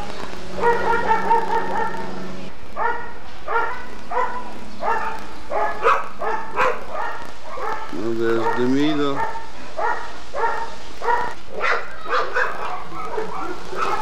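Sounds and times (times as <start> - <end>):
dog barking: 0.5 - 14.0.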